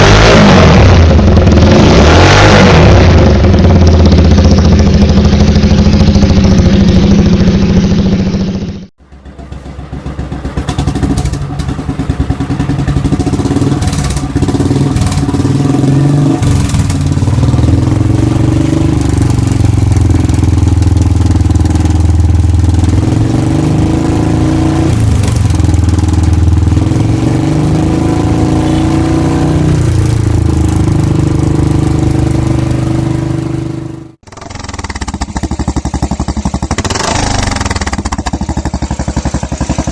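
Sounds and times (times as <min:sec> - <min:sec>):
motorcycle engine thumping and revving: 0:00.0 - 0:39.9.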